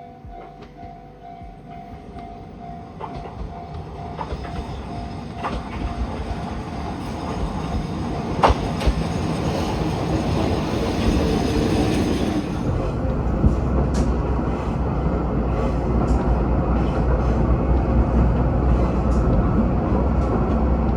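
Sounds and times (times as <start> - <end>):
railcar wheels clattering: 1.4 - 20.9.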